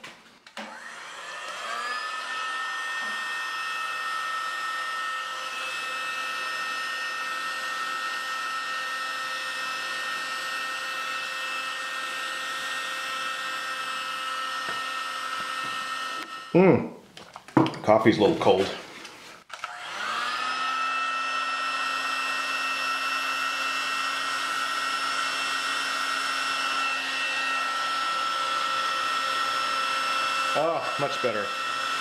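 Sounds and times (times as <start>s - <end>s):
heat gun fan whining: 0.0s - 17.7s, 19.4s - 32.0s.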